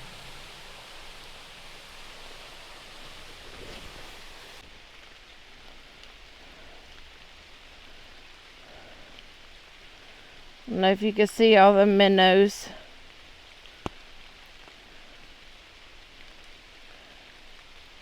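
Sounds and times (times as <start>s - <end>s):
rain and falling water: 0.0s - 18.0s.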